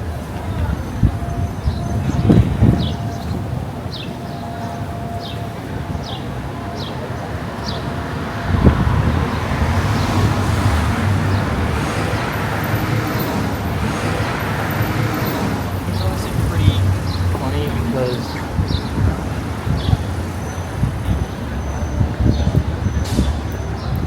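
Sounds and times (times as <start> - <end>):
road noise: 0.0 - 24.0
vehicle rumble: 0.0 - 24.0.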